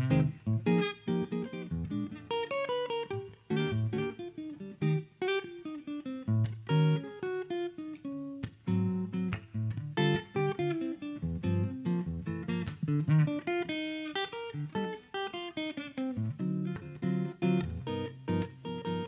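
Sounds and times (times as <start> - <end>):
solo jazz guitar playing: 0.0 - 19.0.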